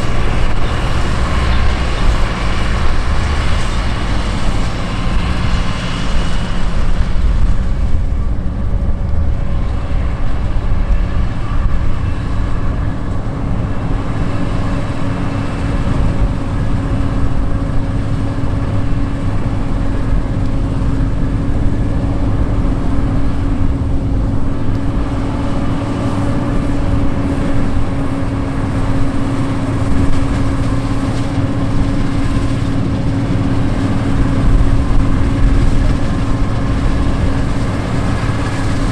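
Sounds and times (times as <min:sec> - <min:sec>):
combine harvester rumbling: 0:00.0 - 0:38.9.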